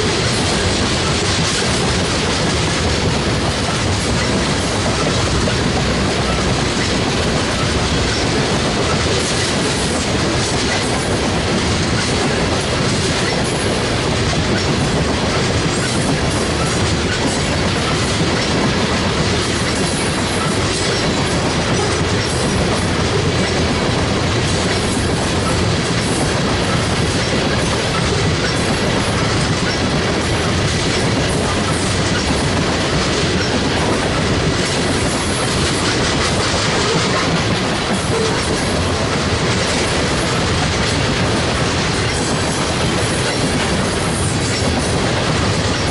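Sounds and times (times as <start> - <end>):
freight train cars rolling: 0.0 - 45.9
steel wheels clacking on rail joints: 0.0 - 45.9.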